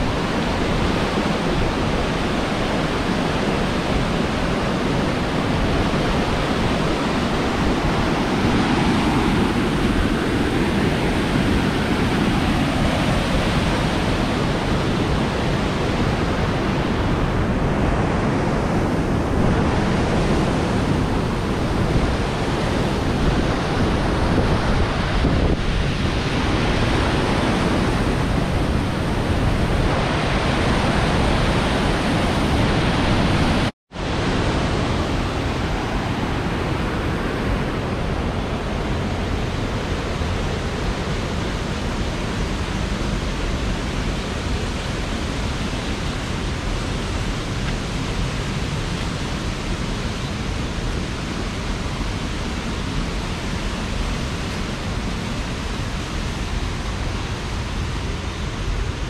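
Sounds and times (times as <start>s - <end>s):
stream rapids rushing: 0.0s - 59.0s.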